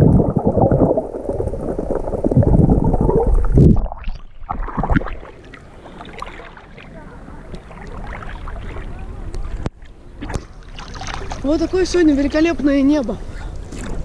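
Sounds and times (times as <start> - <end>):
muffled underwater rush and bubbling: 0.0 - 11.5
water splashing: 0.0 - 12.5.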